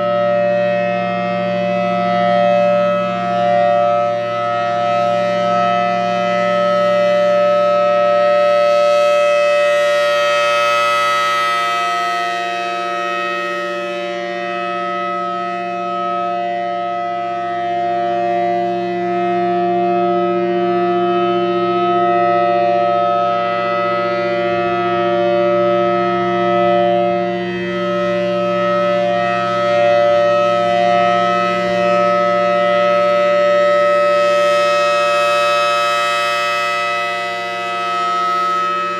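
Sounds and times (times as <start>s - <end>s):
outdoor warning siren steady chord: 0.0s - 38.9s.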